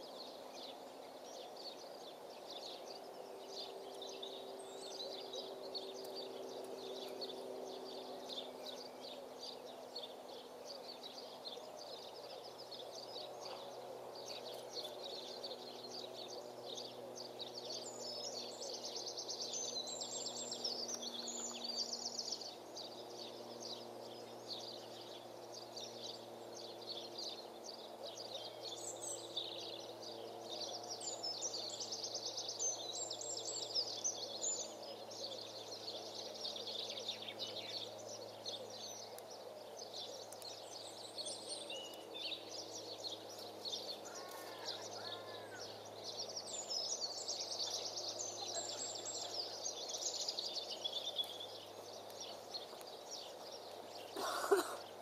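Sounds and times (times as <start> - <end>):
faint low hum: 0.0 - 55.0
songbirds chirping and singing: 0.0 - 55.0.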